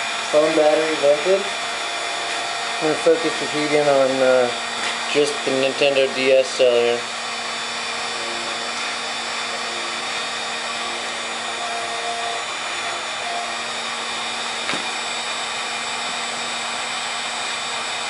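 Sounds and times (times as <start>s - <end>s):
heat gun blowing: 0.0s - 18.0s.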